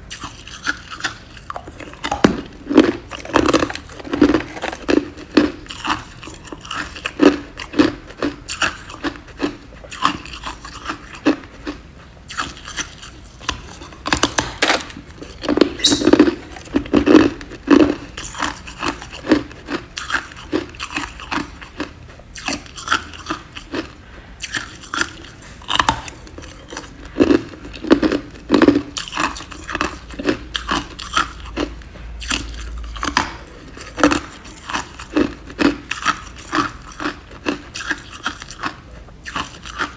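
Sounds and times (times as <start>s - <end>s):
ice crunching while chewed: 0.1s - 39.9s.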